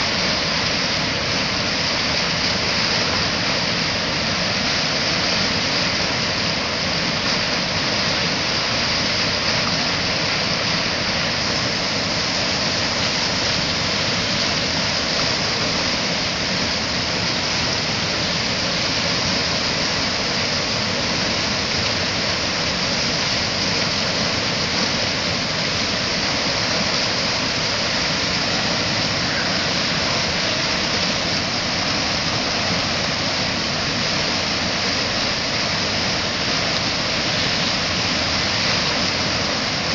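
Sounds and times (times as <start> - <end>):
water rushing over rapids: 0.0 - 39.9.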